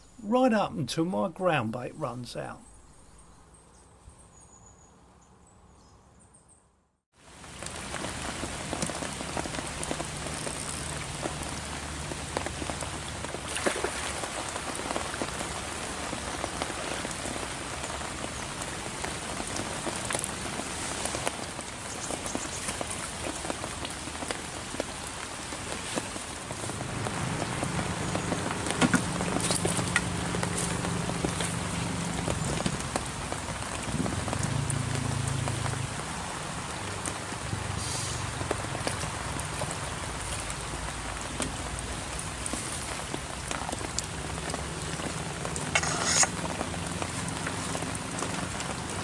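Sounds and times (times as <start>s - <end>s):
heavy rain on water: 7.2s - 49.0s.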